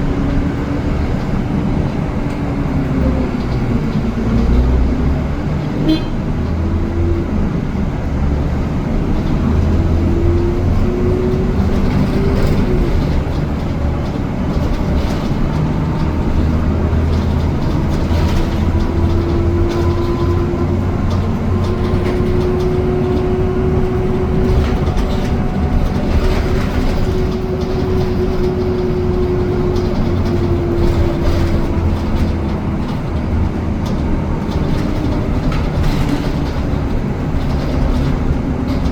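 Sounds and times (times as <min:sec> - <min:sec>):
bus engine and road rumble: 0:00.0 - 0:38.9.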